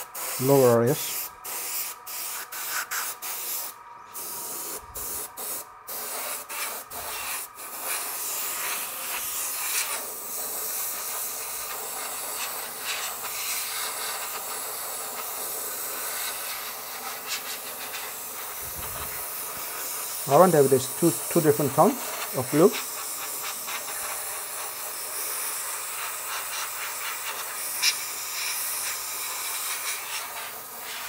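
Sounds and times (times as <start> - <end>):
airbrush hissing: 0.0 - 31.0.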